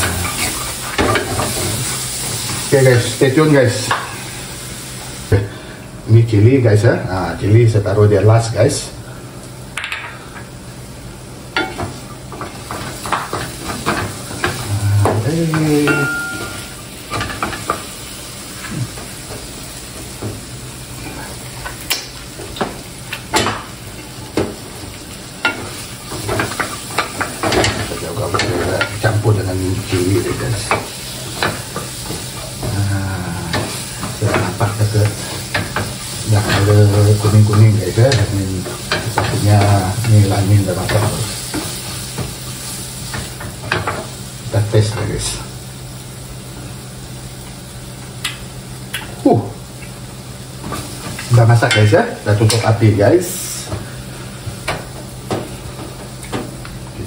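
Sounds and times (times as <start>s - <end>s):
food sizzling: 0.0s - 57.0s.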